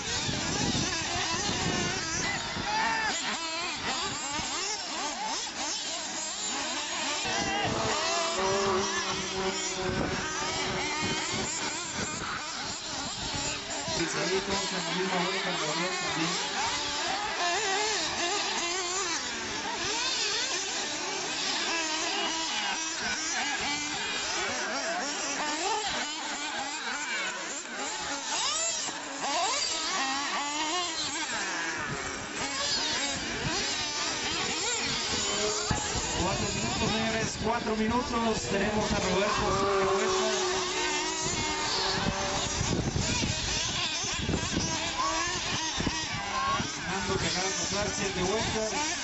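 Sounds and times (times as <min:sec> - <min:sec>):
rc buggy motors whining: 0:00.0 - 0:49.0.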